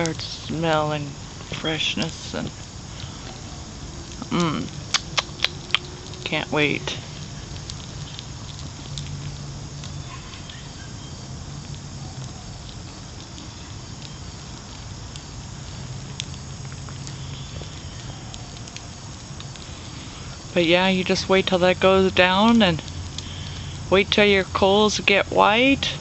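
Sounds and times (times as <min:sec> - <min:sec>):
low hum: 0:00.0 - 0:24.9
charcoal crackling and popping: 0:00.0 - 0:26.0
outdoor background noise: 0:00.0 - 0:26.0.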